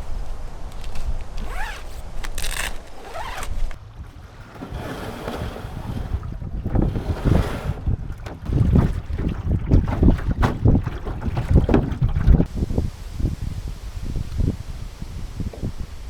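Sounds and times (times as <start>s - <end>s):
strong gusty wind on microphone: 0.0s - 16.0s.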